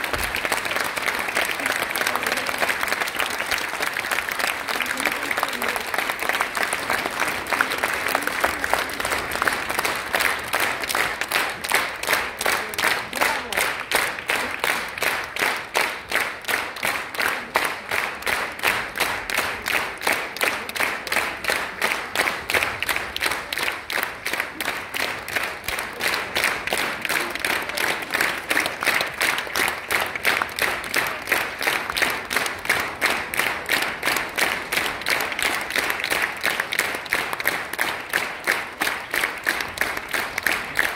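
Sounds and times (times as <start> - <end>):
audience clapping in unison: 0.0 - 40.9.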